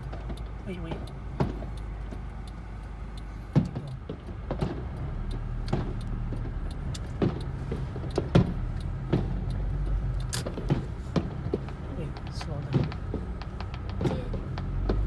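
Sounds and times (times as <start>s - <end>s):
fireworks banging and popping: 0.0s - 1.8s, 3.5s - 15.0s
car engine hum: 0.0s - 15.0s
road noise: 0.0s - 15.0s.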